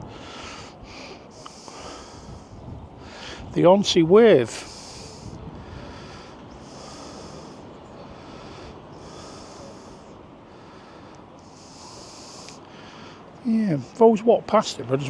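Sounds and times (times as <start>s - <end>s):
strong wind buffeting microphone: 0.0s - 12.4s
high wind hiss: 0.0s - 15.0s.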